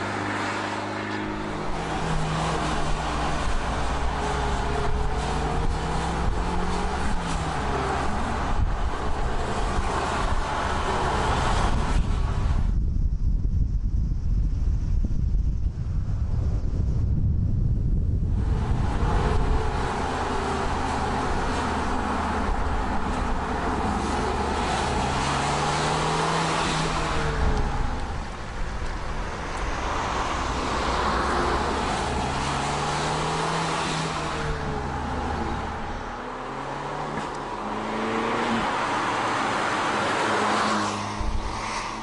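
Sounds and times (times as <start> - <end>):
car engine accelerating hard: 0.0 - 12.6, 18.2 - 42.0
road and wind noise: 0.0 - 42.0.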